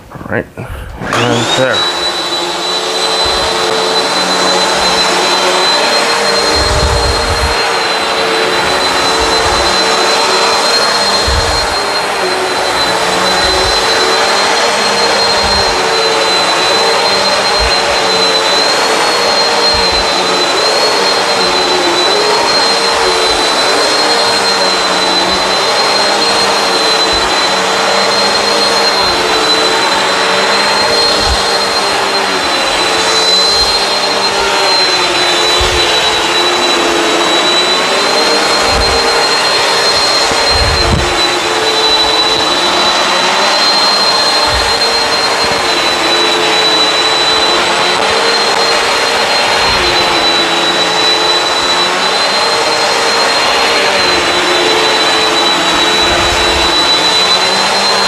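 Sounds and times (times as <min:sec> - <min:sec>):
upright vacuum motor whine: 0:00.8 - 0:58.0.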